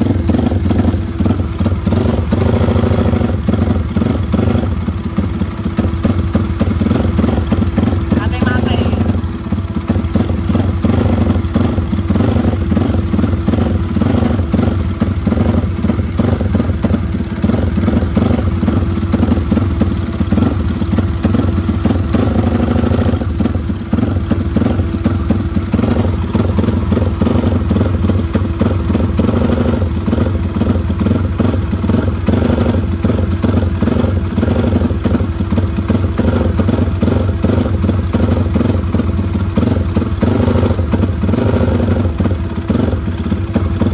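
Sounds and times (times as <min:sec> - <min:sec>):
motorcycle engine fast idle: 0:00.0 - 0:43.9.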